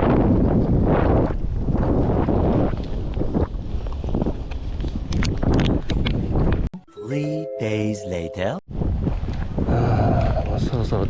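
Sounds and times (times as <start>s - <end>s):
wind buffeting microphone: 0.0s - 6.7s, 8.7s - 11.0s.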